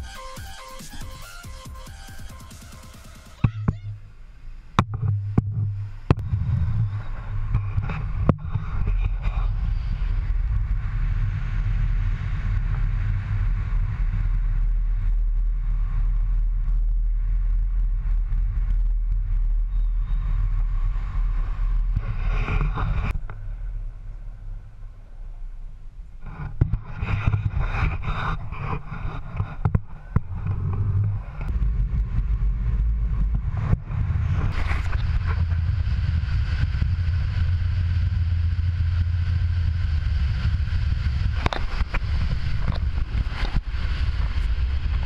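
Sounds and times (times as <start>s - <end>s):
road and air noise: 3.3s - 45.0s.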